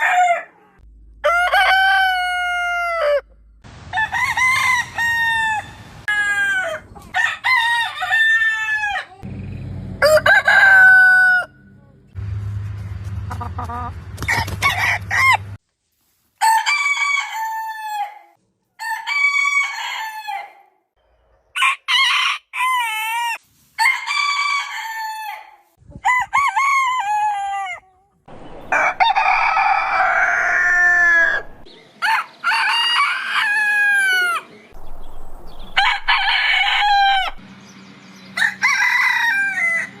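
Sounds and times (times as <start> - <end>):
roosters crowing: 0.0 - 0.6, 1.2 - 9.3, 9.9 - 11.7, 16.4 - 20.6, 21.6 - 37.5, 38.2 - 40.0.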